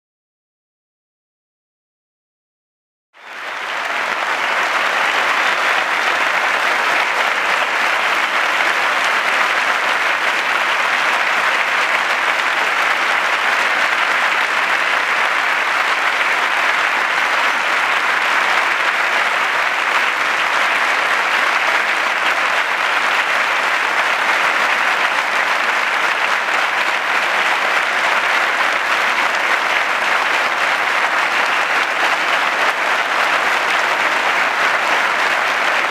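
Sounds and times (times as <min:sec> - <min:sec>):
stadium crowd clapping: 0:03.2 - 0:35.9.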